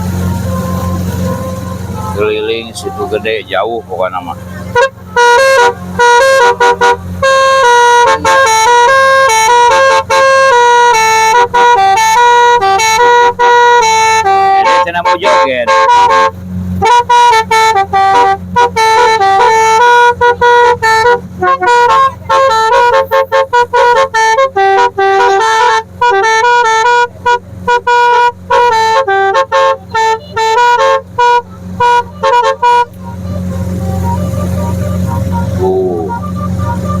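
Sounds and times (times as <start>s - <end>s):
boat engine humming: 0.0s - 37.0s
musical horn playing a fast tune: 0.0s - 37.0s.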